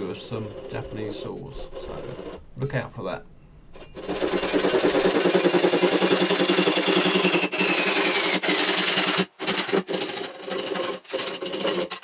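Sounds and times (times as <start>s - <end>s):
handsaw cutting wood: 0.0s - 2.4s, 3.8s - 12.0s.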